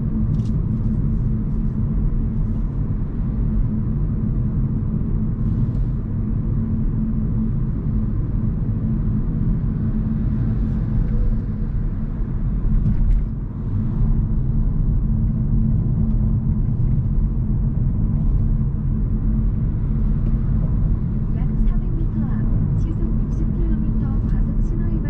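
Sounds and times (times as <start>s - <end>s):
faint constant hum: 0.0s - 25.0s
road and tyre rumble: 0.0s - 25.0s.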